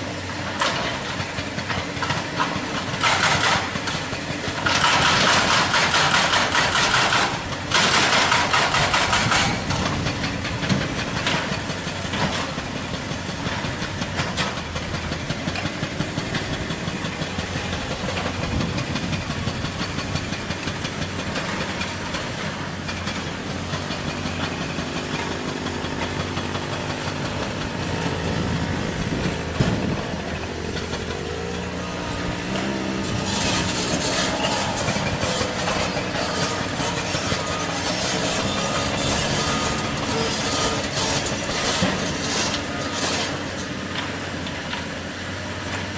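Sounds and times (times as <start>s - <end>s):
heavy diesel machinery running: 0.0s - 45.9s
hydraulic rock breaker hammering: 0.3s - 45.9s.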